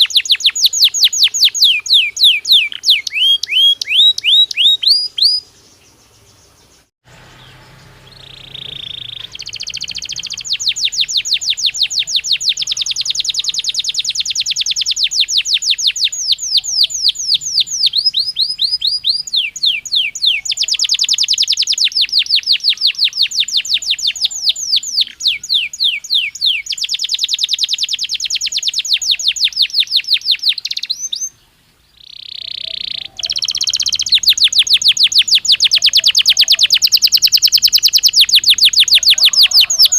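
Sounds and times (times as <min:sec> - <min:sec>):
canary singing rapid trills: 0:00.0 - 0:31.4, 0:32.0 - 0:39.9.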